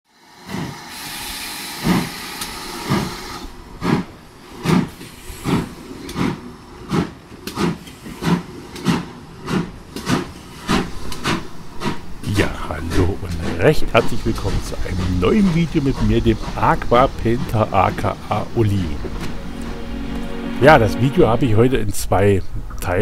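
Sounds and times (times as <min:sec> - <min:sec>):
steam hissing: 0:00.1 - 0:19.2
steam locomotive chuffing: 0:00.1 - 0:21.2.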